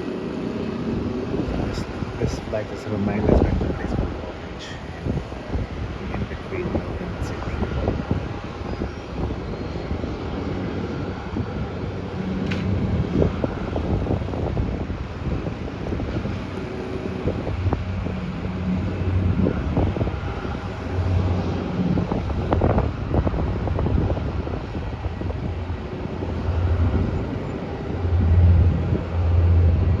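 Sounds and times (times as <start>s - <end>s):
low engine drone: 0.0s - 30.0s
wind buffeting microphone: 0.0s - 30.0s.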